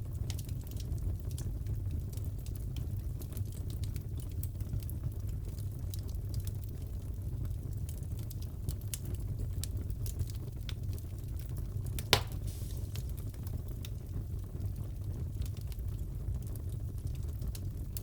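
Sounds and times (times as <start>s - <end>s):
fire popping: 0.0s - 18.0s
fireplace fire crackling: 0.0s - 18.0s.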